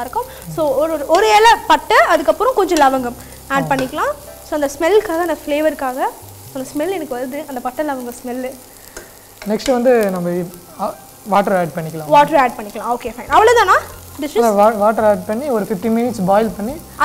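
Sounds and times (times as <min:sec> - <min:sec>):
vegetables sizzling in butter: 0:00.0 - 0:17.0.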